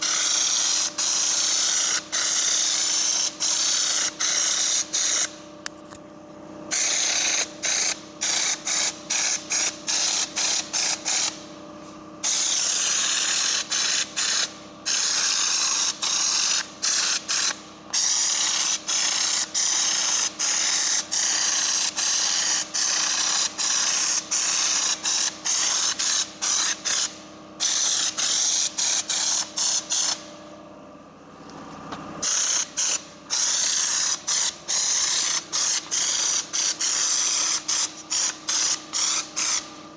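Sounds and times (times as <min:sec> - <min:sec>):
spray gun hissing bursts: 0:00.0 - 0:05.4, 0:06.7 - 0:11.4, 0:12.2 - 0:30.3, 0:32.2 - 0:39.8.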